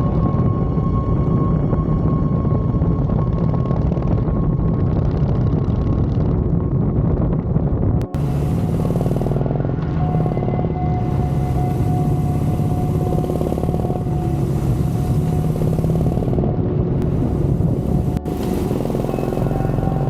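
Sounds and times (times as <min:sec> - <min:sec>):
motorcycle engine running: 0:03.2 - 0:20.0.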